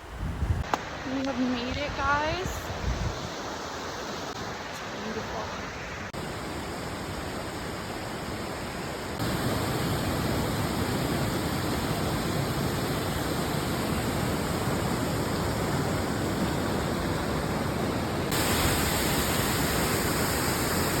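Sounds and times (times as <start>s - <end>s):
waterfall rushing: 3.3s - 21.0s.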